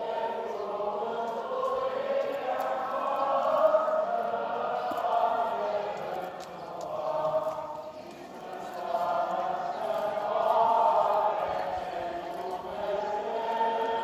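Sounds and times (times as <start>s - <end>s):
group chanting: 0.0s - 14.0s.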